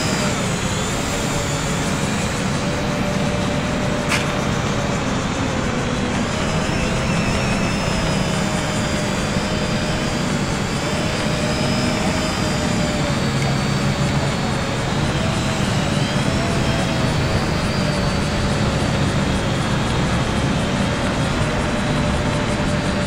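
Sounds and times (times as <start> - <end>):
quadcopter propellers buzzing: 0.0 - 23.0.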